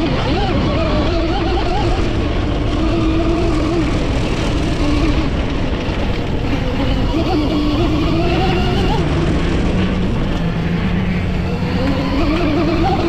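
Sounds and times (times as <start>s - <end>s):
electric motor whining: 0.0s - 13.0s
low rushing noise: 0.0s - 13.0s.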